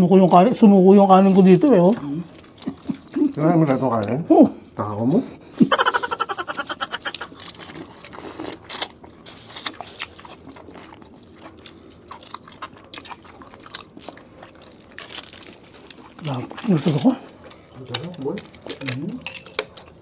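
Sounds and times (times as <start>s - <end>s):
chewing and mouth smacking: 1.3s - 4.2s, 6.1s - 20.0s.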